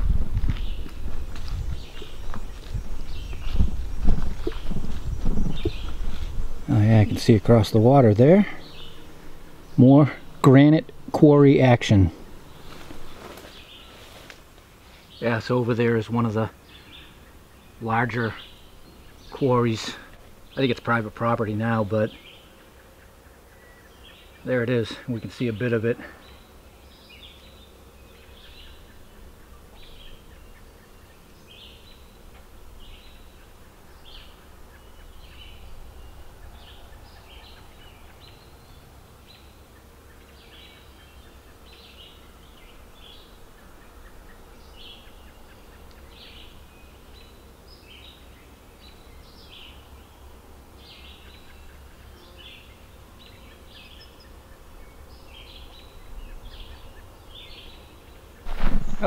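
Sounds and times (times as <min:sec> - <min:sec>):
small birds chirping: 0:00.3 - 0:59.0.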